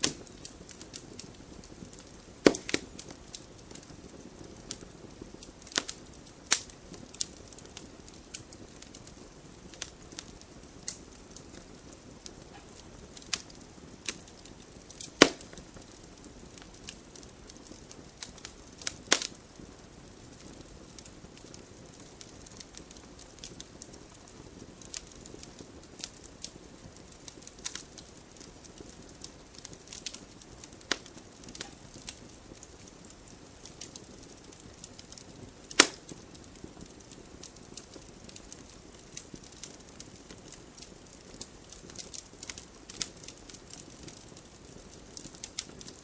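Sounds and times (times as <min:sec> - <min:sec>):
fire hissing: 0:00.0 - 0:46.0
logs crackling and popping: 0:00.0 - 0:46.0.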